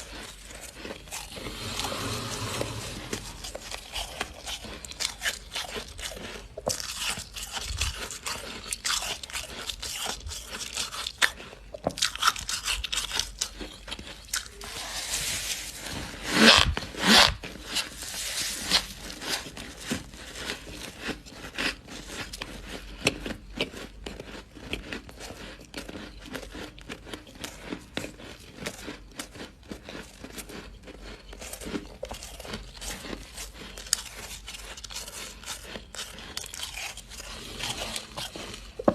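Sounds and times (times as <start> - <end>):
crunching and chewing frost: 0.0 - 38.9.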